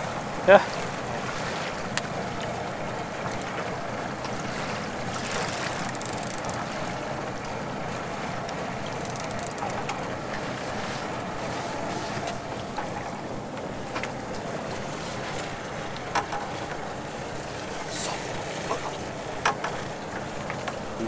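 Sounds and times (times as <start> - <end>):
wind and sea noise: 0.0 - 21.0.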